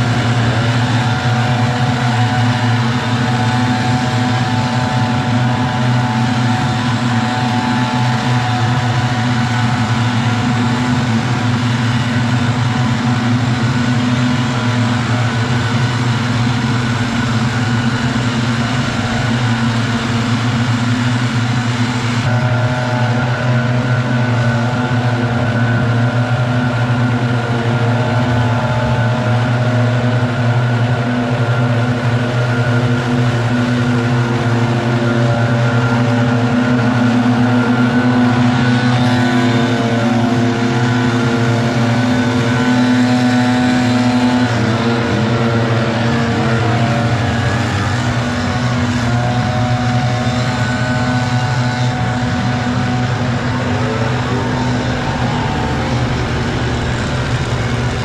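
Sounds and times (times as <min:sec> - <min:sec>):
leaf blowers engine drone: 0:00.0 - 0:58.0.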